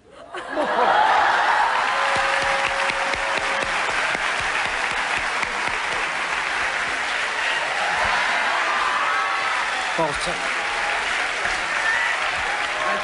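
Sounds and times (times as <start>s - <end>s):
audience applauding: 0.7s - 13.0s.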